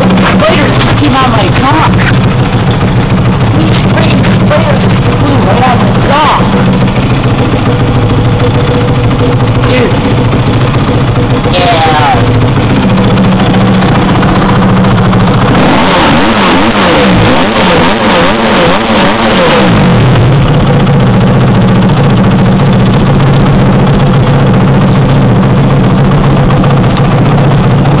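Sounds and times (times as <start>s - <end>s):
dirt bike engine idling and revving: 0.0s - 28.0s.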